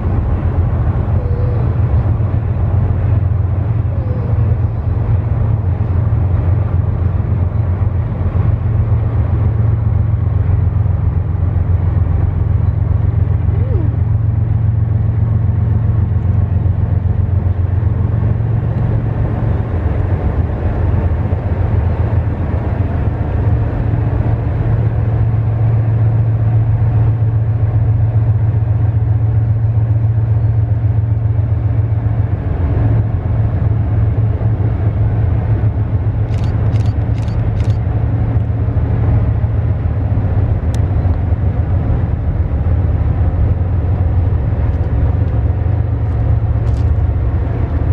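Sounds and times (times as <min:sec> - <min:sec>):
freight train rumbling on rails: 0:00.0 - 0:47.9.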